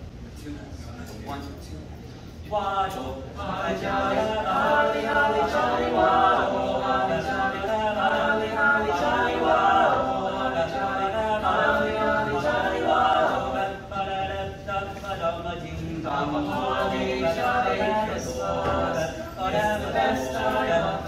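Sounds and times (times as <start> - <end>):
boys singing a cappella in harmony: 2.2 - 21.0.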